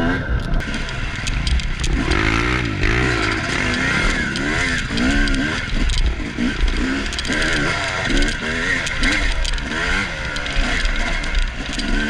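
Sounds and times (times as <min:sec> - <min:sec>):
dirt bike engine revving: 0:00.0 - 0:12.0
loose parts rattling: 0:00.4 - 0:12.0.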